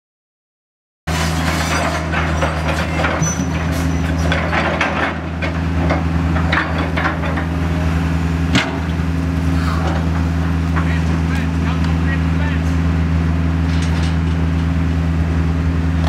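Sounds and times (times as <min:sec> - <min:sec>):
diesel engine running: 0:01.1 - 0:16.0.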